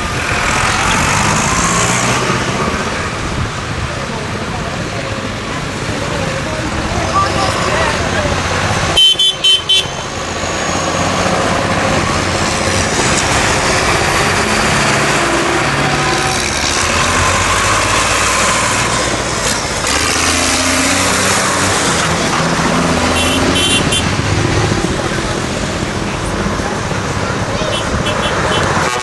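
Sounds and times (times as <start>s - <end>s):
tractor engines running: 0.0s - 29.0s.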